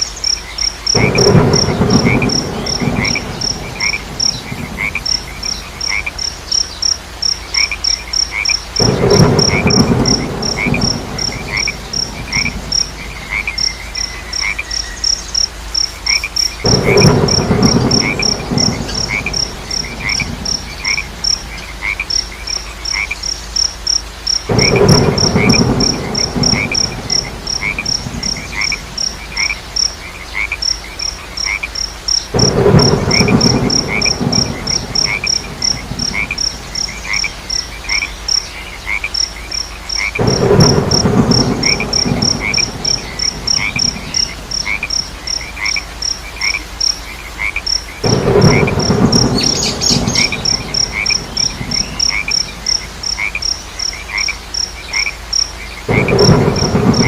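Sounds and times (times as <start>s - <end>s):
crickets chirping: 0.0s - 57.0s
frogs calling: 0.0s - 57.0s.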